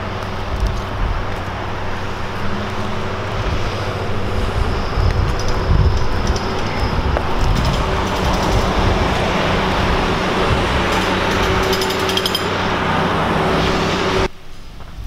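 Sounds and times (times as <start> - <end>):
low engine hum: 0.0 - 15.0
traffic rushing: 0.0 - 15.0.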